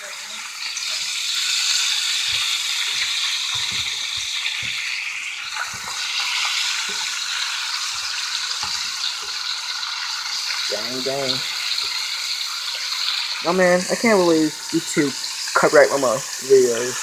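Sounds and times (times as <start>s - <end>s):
chicken sizzling in hot oil: 0.0s - 17.0s
oil popping: 1.2s - 15.7s.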